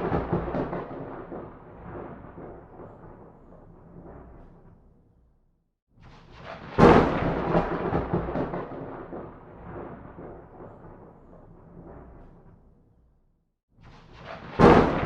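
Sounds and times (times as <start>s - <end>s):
thunderclap with rolling rumble: 0.0s - 5.0s, 6.4s - 12.7s, 14.2s - 15.0s.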